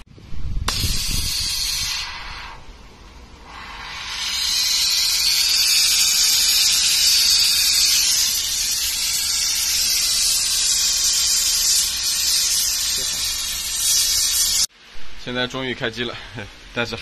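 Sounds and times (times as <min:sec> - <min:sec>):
pressurised gas hissing: 0:00.6 - 0:14.7.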